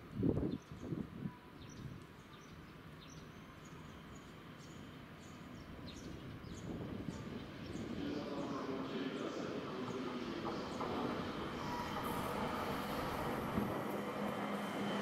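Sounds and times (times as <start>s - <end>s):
train low rumble: 0.0s - 15.0s
small birds chirping: 0.5s - 13.3s.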